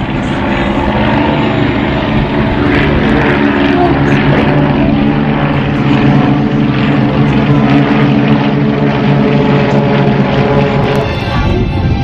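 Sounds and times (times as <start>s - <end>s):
propeller aircraft engine: 0.0s - 12.0s.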